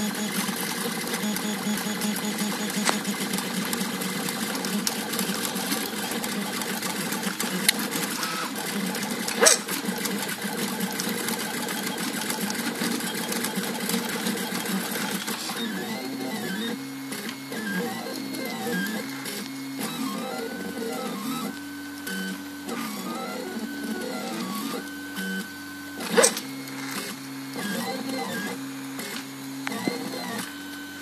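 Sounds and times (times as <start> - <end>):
stepper motors buzzing and whining: 0.0 - 31.0.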